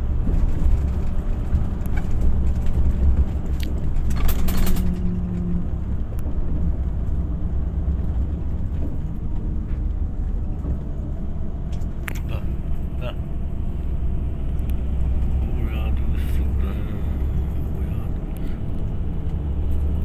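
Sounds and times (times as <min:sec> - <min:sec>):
motor vehicle running: 0:00.0 - 0:20.0.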